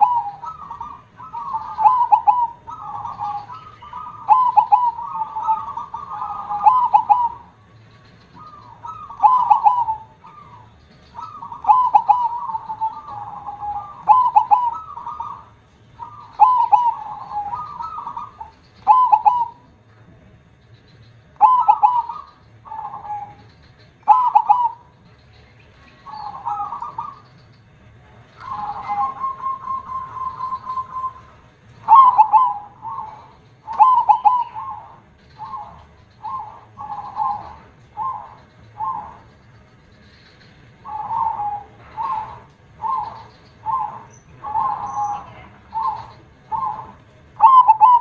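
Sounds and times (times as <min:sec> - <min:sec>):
dove cooing: 0:00.0 - 0:48.0.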